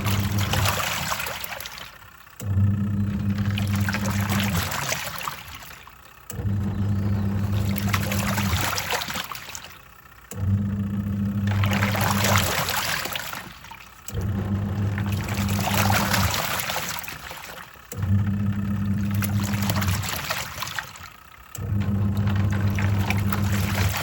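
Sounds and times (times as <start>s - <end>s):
washing machine motor humming: 0.0s - 24.0s
water sloshing: 0.0s - 24.0s.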